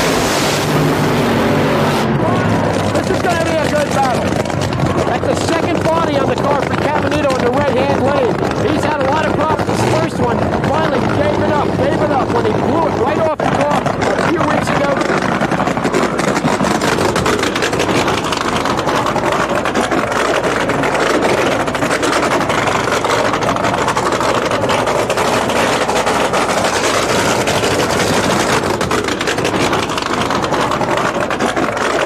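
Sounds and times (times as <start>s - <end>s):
dragster engines rumbling: 0.0s - 32.0s.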